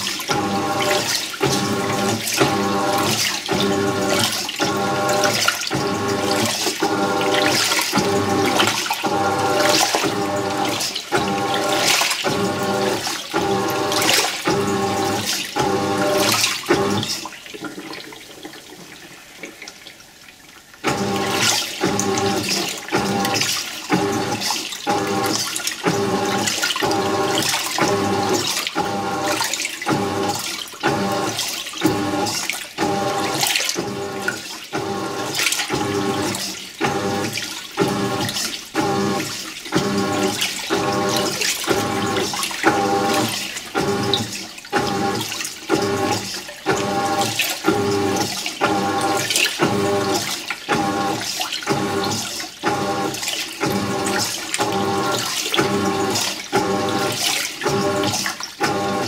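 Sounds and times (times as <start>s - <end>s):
washing machine agitating: 0.0s - 59.0s
water sloshing: 0.0s - 59.0s.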